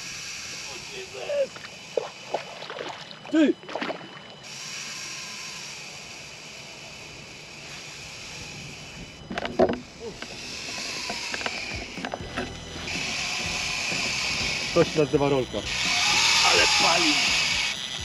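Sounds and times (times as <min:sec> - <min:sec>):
bite alarm: 0:00.0 - 0:18.0
fishing line buzzing off reel: 0:00.0 - 0:18.0.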